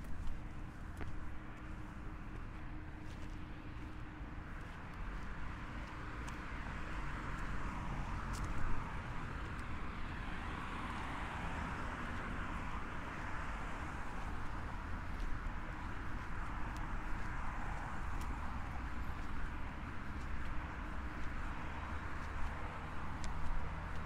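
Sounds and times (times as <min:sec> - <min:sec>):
passing car traffic: 0:00.0 - 0:24.0.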